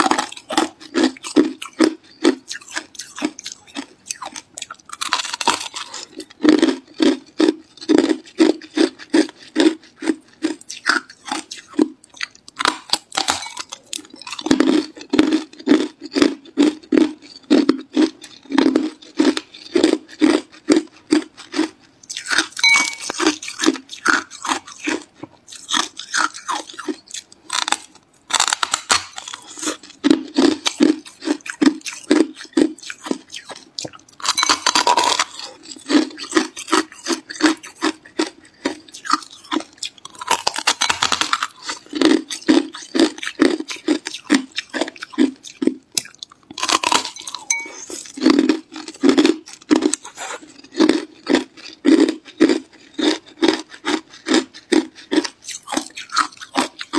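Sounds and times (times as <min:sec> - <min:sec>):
ice being chewed: 0:00.0 - 0:56.9.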